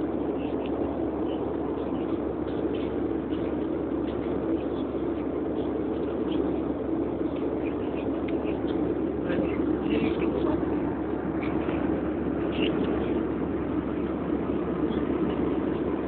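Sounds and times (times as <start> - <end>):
airliner engines rumbling: 0.0 - 16.0.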